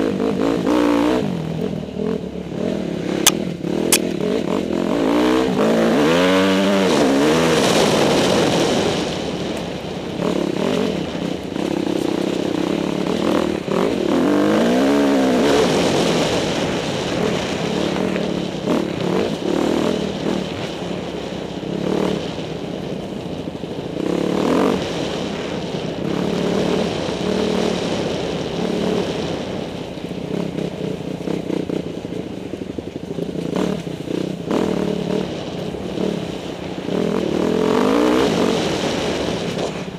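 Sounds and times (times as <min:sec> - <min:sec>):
dirt bike engine revving: 0:00.0 - 0:22.5, 0:24.0 - 0:32.1, 0:33.0 - 0:39.9.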